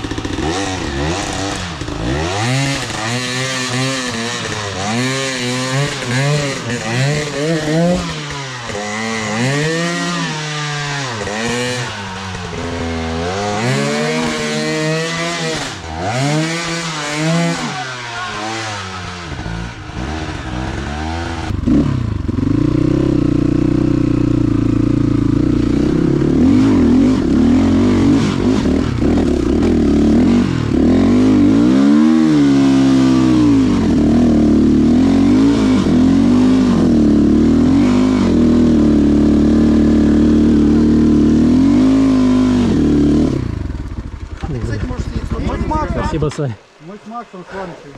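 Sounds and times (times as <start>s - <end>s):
motorcycle engine revving: 0.0s - 46.4s.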